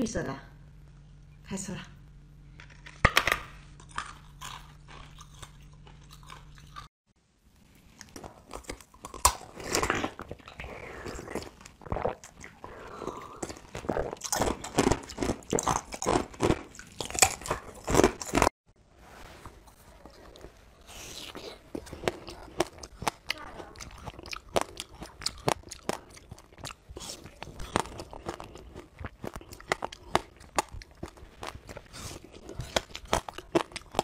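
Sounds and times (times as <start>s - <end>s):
ice being bitten and chewed: 3.8s - 6.9s, 7.9s - 18.5s, 20.0s - 34.0s.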